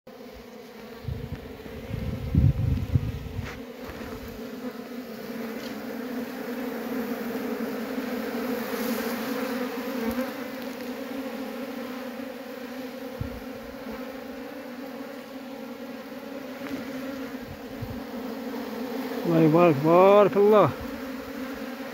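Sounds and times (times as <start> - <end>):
bees buzzing: 0.1 - 21.9.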